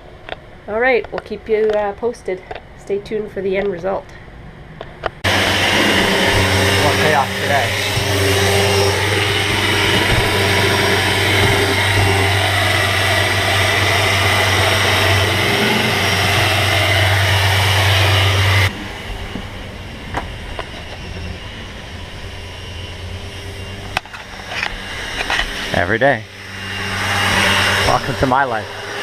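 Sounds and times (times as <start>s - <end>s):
machine with low hum: 4.4s - 29.0s.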